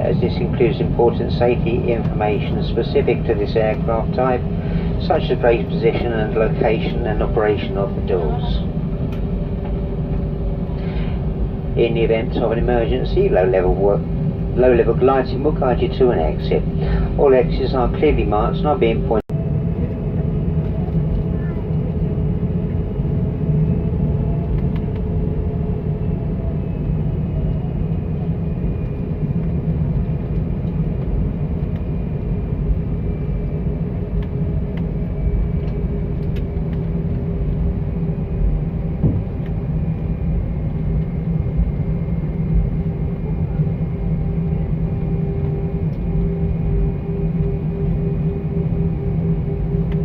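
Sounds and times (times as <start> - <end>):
faint high whine: 0.0 - 50.0
jet engines rumbling: 0.0 - 50.0.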